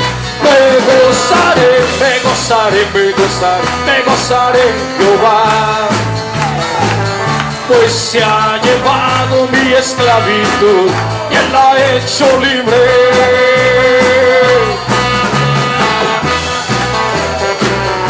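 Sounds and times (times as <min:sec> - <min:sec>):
upbeat band music: 0:00.0 - 0:18.0.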